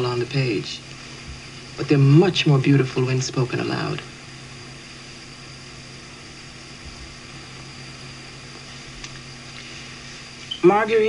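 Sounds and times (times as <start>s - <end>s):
faint low hum: 0.0s - 11.0s
film soundtrack hiss: 0.0s - 11.0s.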